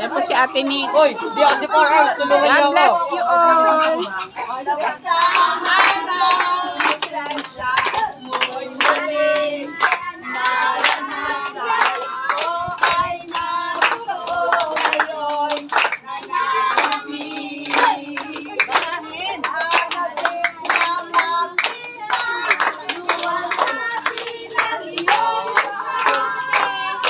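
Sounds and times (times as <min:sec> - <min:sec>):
children singing together: 0:03.5 - 0:27.0
hands clapping: 0:03.5 - 0:27.0.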